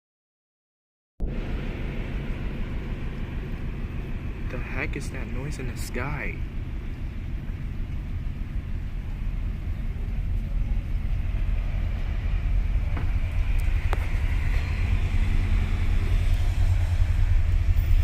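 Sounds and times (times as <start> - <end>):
deep rumble in the sky: 1.2 - 18.0.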